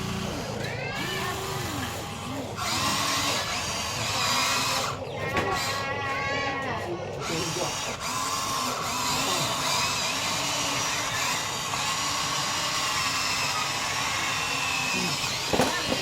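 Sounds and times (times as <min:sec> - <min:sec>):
toy electric motors whining: 0:00.0 - 0:16.0.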